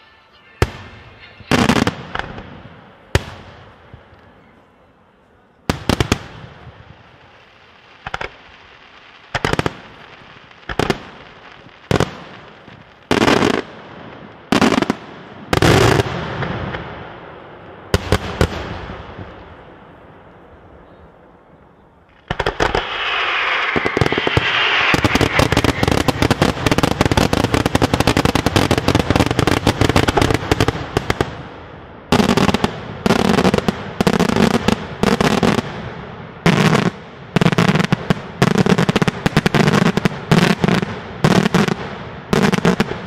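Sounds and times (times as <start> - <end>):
fireworks bangs: 0.0 - 4.6, 5.6 - 43.0.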